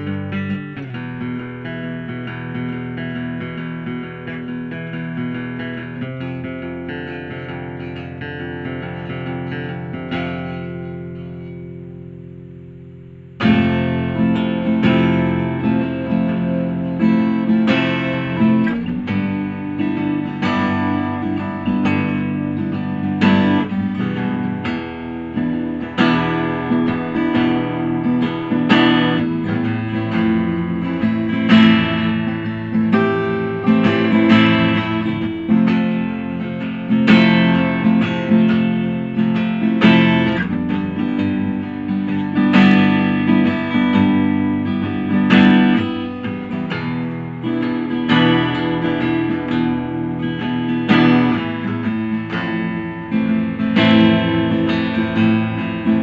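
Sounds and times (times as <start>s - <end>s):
strummed guitar chords: 0.0s - 56.0s.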